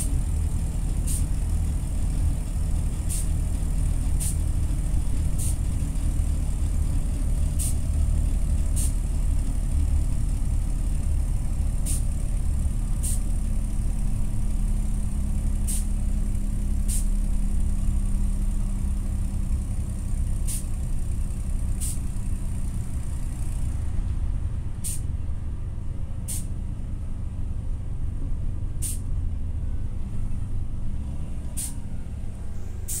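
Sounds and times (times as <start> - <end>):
bus engine droning: 0.0 - 33.0.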